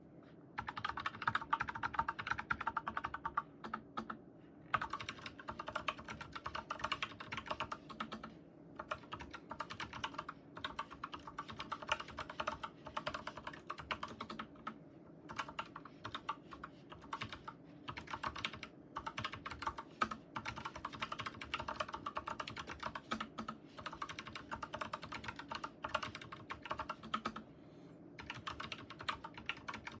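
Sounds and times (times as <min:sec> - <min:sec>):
fast typing on mechanical keyboard: 0:00.6 - 0:27.4, 0:28.2 - 0:30.0.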